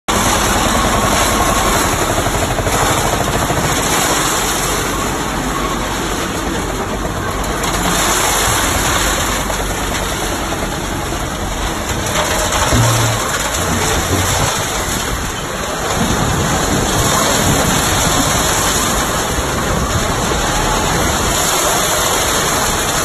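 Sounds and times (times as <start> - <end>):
concrete mixer truck engine running: 0.1 - 23.0.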